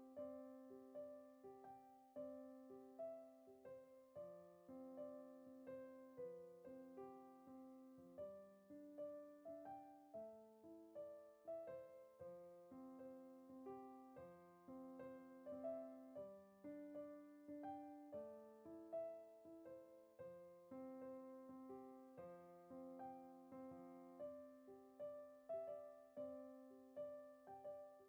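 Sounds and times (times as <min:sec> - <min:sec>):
soft piano music: 0:00.0 - 0:28.0.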